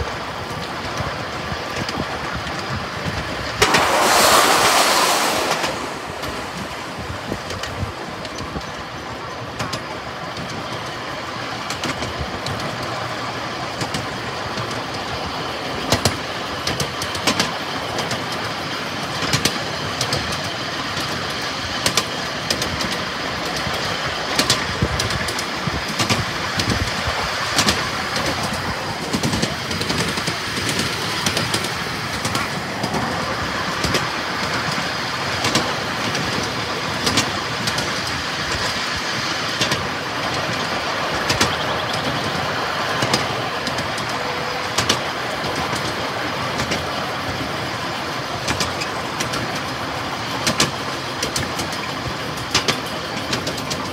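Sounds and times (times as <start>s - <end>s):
rumble of wheels on rails: 0.0s - 53.9s
wheels clicking over rail joints: 0.0s - 53.9s.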